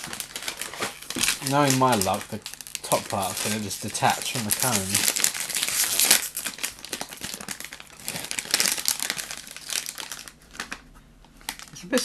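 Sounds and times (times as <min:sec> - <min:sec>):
plastic wrappers crinkling and tearing: 0:00.0 - 0:12.0.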